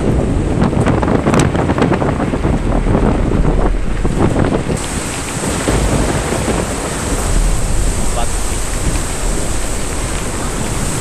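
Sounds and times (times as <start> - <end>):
gusty wind on microphone: 0.0 - 11.0.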